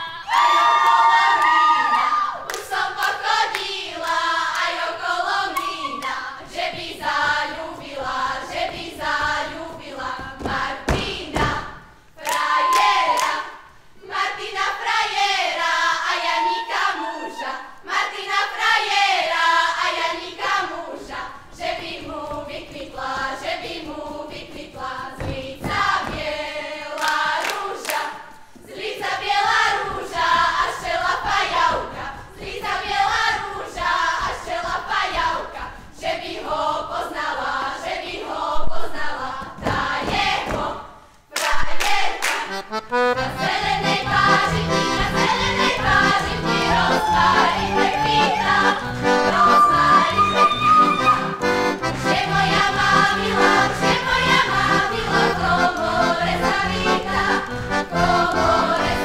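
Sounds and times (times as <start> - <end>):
women singing folk song: 1.8 - 59.0.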